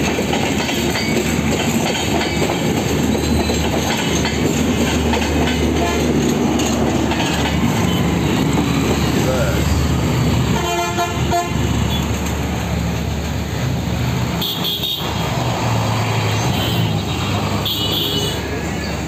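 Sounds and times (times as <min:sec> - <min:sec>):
train wheels clattering on track: 0:00.0 - 0:19.0.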